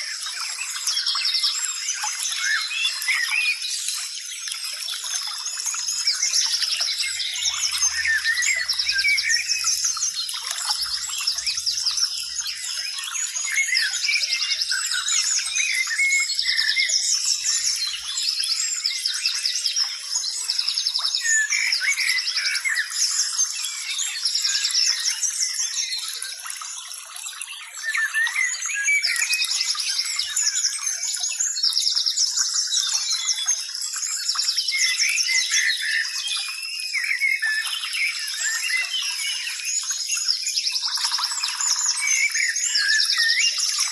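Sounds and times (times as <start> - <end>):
birds chirping and trilling: 0.0 - 43.9.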